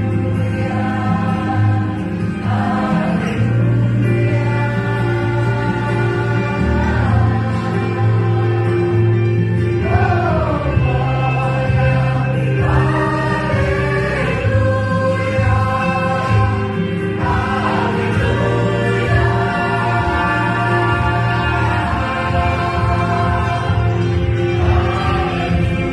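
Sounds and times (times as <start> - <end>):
instrumental backing: 0.0 - 25.9
vocal group singing worship song: 0.0 - 25.9.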